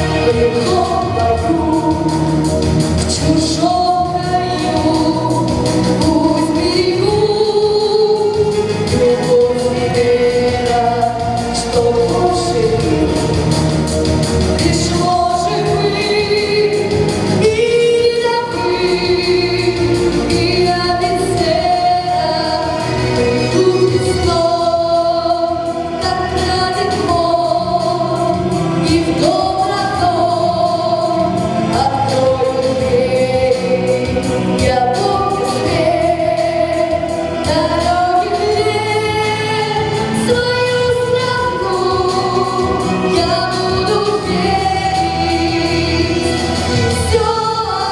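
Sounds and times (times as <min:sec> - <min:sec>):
instrumental backing: 0:00.0 - 0:47.9
voices singing a song: 0:00.0 - 0:47.9.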